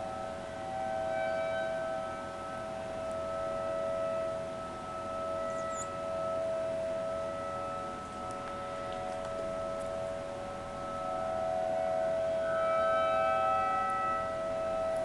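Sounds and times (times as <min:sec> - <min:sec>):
distant siren steady tone: 0:00.0 - 0:15.0.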